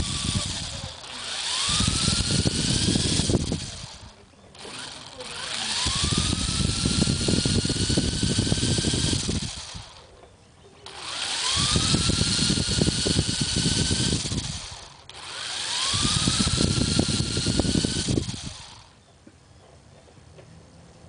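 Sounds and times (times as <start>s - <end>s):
model helicopter motor whining: 0.0s - 10.1s, 10.8s - 19.0s
rotor head rattling clatter: 0.0s - 10.2s, 10.8s - 19.0s.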